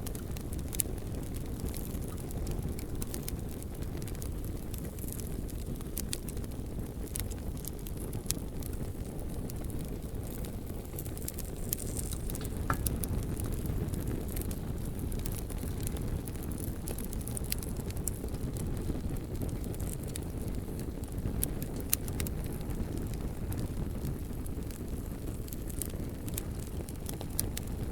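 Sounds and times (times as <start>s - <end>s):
burning logs crackling and popping: 0.0s - 27.9s
low rumble of flame: 0.0s - 27.9s.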